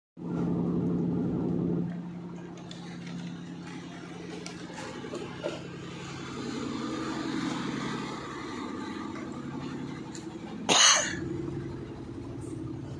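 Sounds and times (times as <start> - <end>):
machine motor hum: 0.2 - 12.9.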